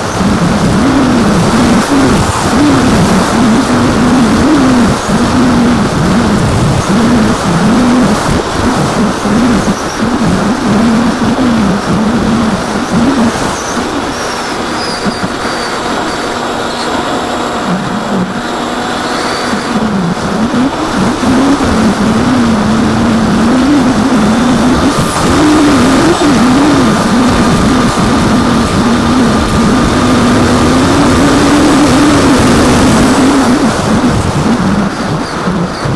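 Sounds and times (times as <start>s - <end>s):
electric motor and propeller: 0.0s - 35.9s
wind rush: 0.0s - 35.9s.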